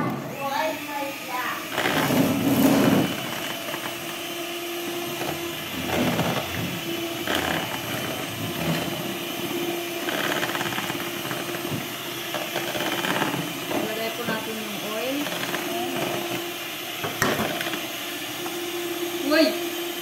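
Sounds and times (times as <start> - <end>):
electric hand mixer whipping: 0.0 - 20.0.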